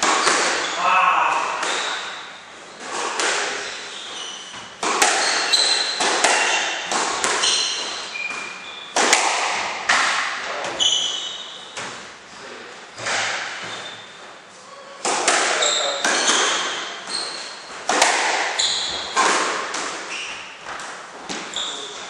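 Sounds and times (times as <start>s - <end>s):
shoes squeaking on court floor: 0.0s - 9.1s, 10.6s - 22.0s
squash ball hitting rackets and walls: 0.0s - 14.4s, 15.0s - 22.0s.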